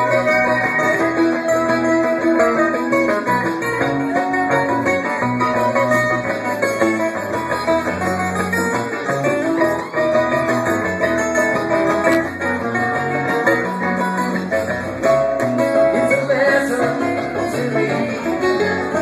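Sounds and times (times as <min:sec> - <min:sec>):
acoustic guitar: 0:00.0 - 0:19.0
bass line: 0:00.0 - 0:19.0
picked mandolin: 0:00.0 - 0:19.0.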